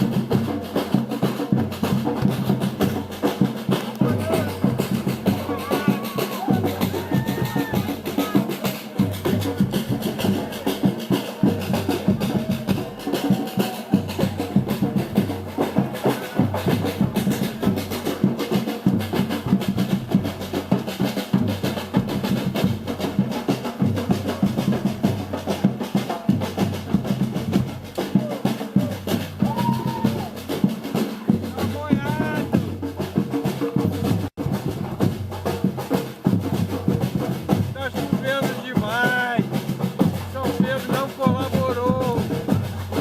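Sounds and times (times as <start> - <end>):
drum group playing: 0.0 - 43.0.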